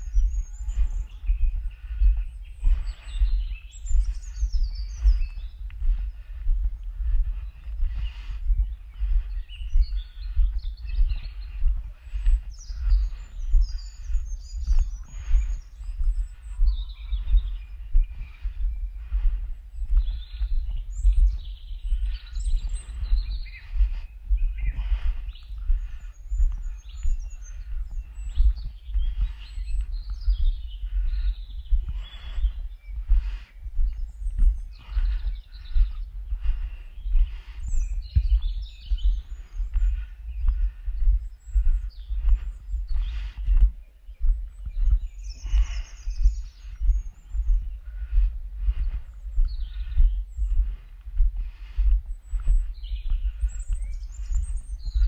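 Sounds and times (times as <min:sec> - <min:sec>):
footsteps on forest path: 0:00.0 - 0:55.0
low microphone rumble: 0:00.0 - 0:55.0
small songbirds chirping: 0:00.0 - 0:55.0.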